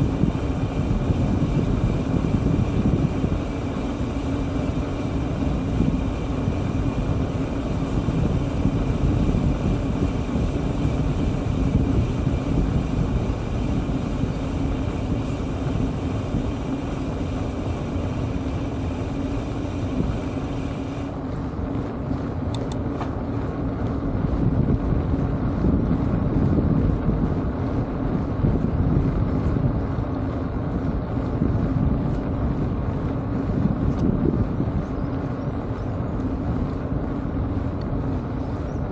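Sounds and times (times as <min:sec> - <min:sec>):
tyres rumbling on asphalt: 0:00.0 - 0:38.9
wind rush over microphone: 0:00.0 - 0:38.9.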